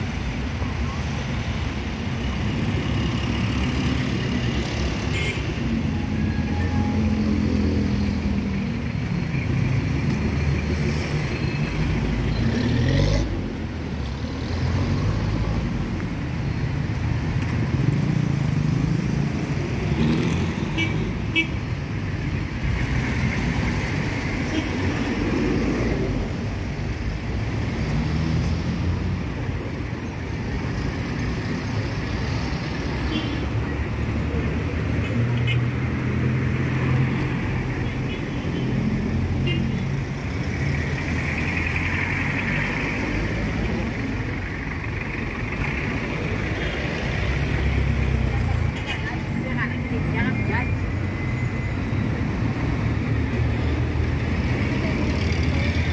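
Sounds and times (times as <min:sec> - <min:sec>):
street traffic rumble: 0:00.0 - 0:55.9.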